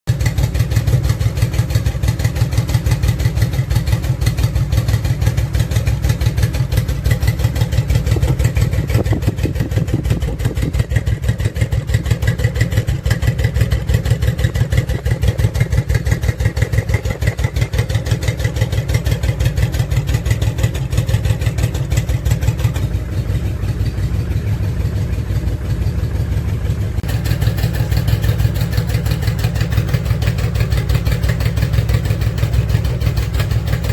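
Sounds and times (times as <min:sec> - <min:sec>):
motorcycle idling: 0:00.1 - 0:33.9.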